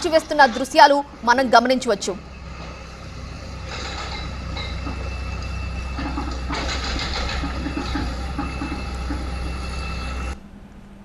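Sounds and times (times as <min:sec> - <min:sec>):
excavator diesel engine running: 0:00.0 - 0:10.4.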